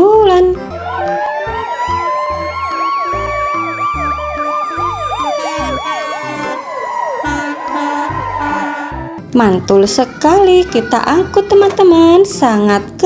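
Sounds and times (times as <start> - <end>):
ambulance siren wailing: 0.6 - 12.4.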